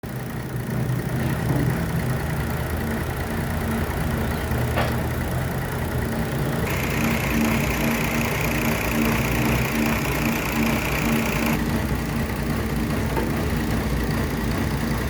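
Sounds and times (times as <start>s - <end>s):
sawmill engine idling: 0.0s - 15.0s.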